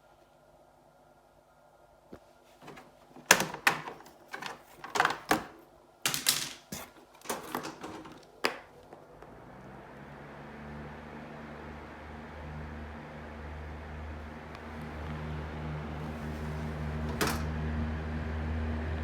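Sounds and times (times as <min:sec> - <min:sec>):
fan motor humming: 0:02.6 - 0:19.0.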